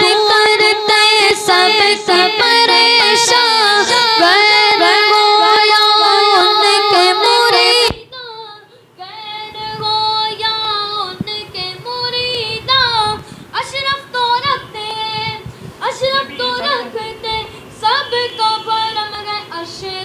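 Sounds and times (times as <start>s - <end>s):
boys singing into microphones: 0.0s - 8.1s, 9.4s - 20.0s.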